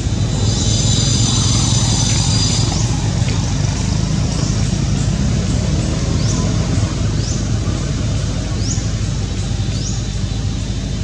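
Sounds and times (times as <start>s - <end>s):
high-pitched buzz with rising sweeps: 0.0s - 11.0s.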